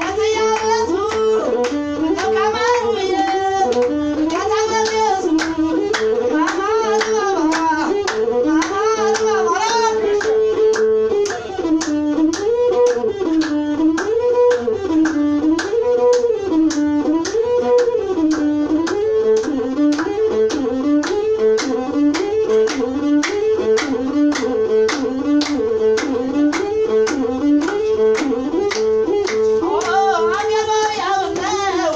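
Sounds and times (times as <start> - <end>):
bowed string melody: 0.0 - 31.9.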